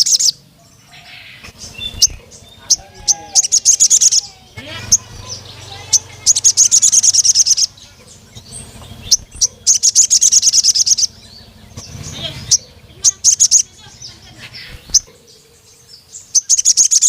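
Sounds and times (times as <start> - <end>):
bird high ticking trill: 0.0 - 17.0
bird sharp high chirps: 0.0 - 17.0.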